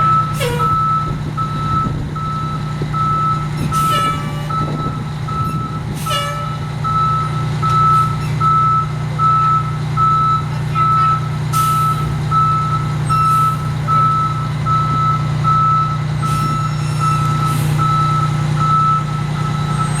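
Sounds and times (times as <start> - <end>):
fire engine idling: 0.0 - 20.0
reversing alarm beeping: 0.0 - 20.0.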